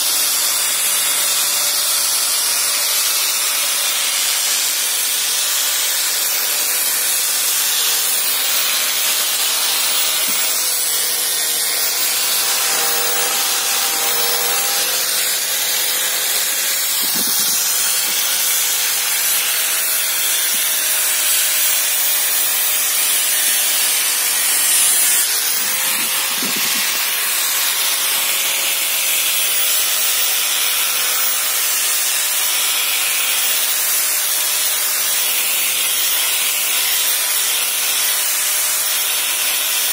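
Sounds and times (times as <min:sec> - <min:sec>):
angle grinder sanding wood: 0:00.0 - 0:39.9.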